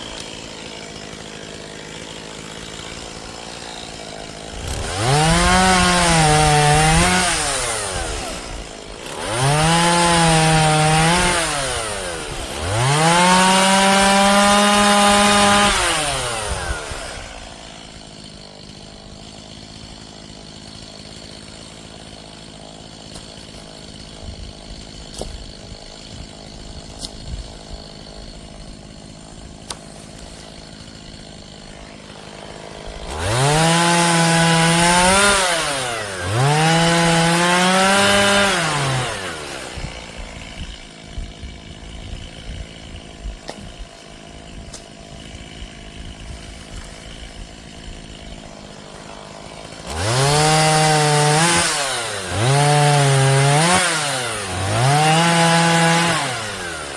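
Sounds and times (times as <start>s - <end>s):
chainsaw idling and revving: 0.0s - 56.9s.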